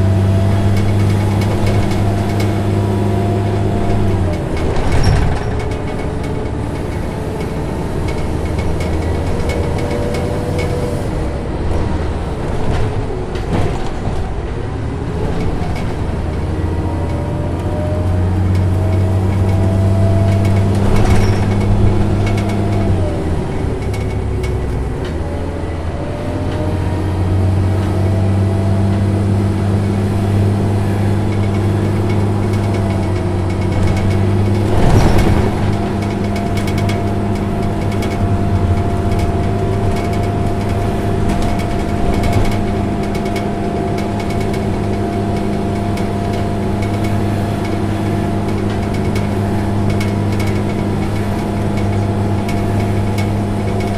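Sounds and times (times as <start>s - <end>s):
bus cabin rattle: 0.0s - 53.9s
bus engine droning with whine: 0.0s - 53.9s.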